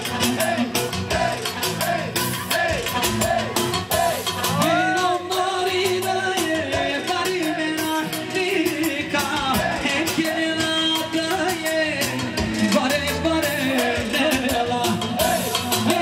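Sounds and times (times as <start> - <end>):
song with quick beat: 0.0 - 16.0.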